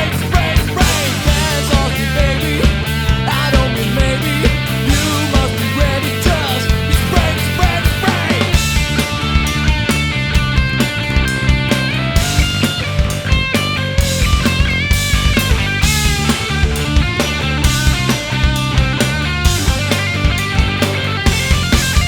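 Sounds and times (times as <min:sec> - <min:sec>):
bass: 0:00.0 - 0:22.0
drum kit beat: 0:00.0 - 0:22.0
melodic lead line: 0:00.0 - 0:22.0.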